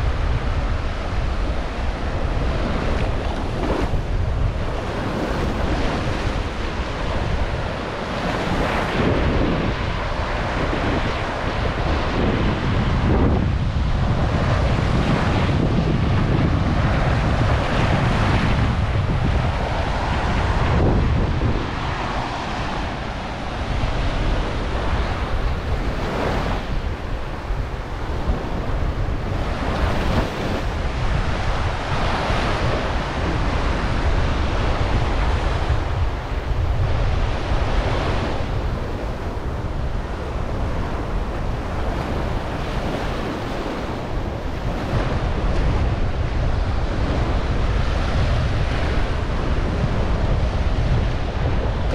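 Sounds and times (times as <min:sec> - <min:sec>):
ocean waves breaking: 0:00.0 - 0:51.9
wind buffeting microphone: 0:00.0 - 0:51.9.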